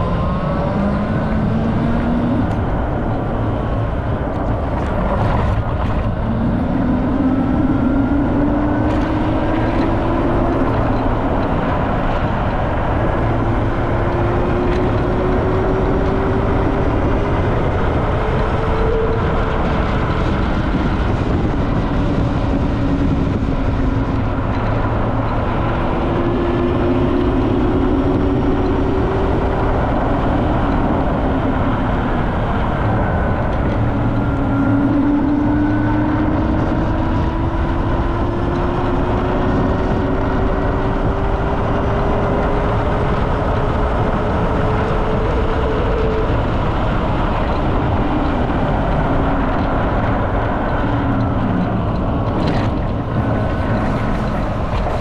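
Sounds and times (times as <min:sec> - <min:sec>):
wind rush and road noise: 0:00.0 - 0:55.0.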